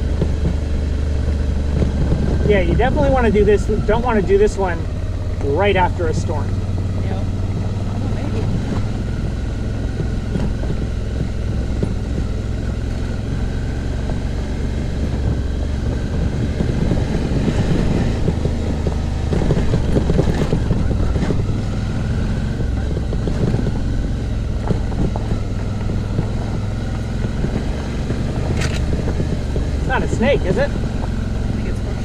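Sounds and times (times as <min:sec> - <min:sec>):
clatter and knocks over bumps: 0:00.0 - 0:32.0
motorcycle engine running: 0:00.0 - 0:32.0
wind buffeting microphone: 0:00.0 - 0:32.0.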